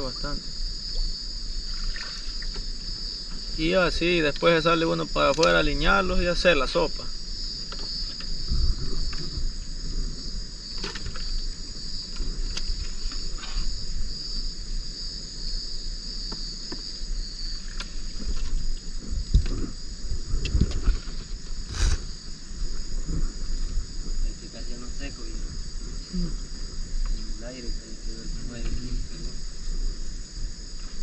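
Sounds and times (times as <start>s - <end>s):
night insects trilling: 0.0s - 31.0s.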